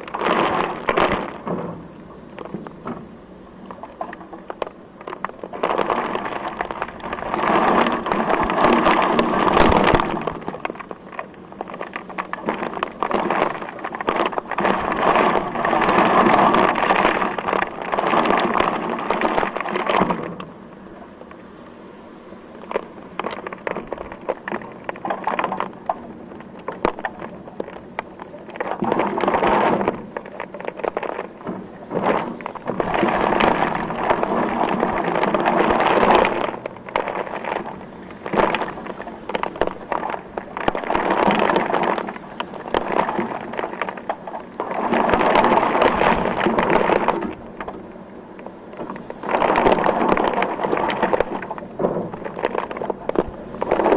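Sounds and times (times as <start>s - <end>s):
sharp raindrop impacts: 0.0s - 21.8s, 22.4s - 53.9s
heavy rain pouring: 0.0s - 53.9s.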